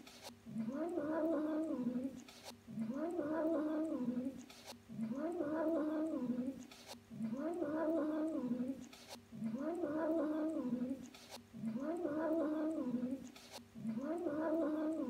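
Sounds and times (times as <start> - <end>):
cat growling: 0.5 - 6.6, 7.2 - 8.8, 9.4 - 11.0, 11.6 - 13.2, 13.8 - 15.0.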